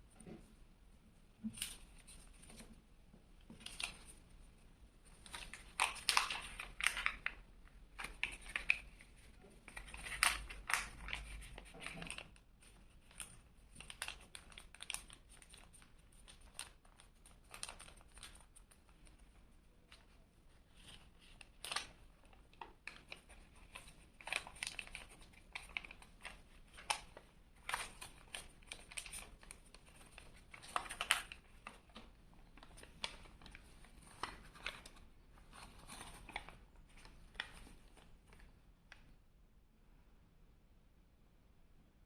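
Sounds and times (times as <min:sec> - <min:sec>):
paper rustling and crinkling: 0:01.4 - 0:02.8, 0:03.4 - 0:04.2, 0:05.0 - 0:38.6.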